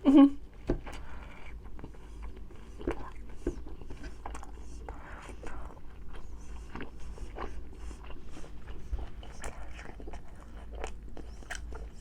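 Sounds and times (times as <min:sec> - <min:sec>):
person chewing food: 0:00.5 - 0:12.0.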